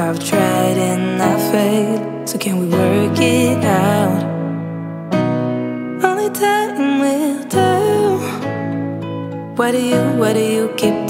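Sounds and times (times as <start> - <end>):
person singing love song: 0.0 - 11.0.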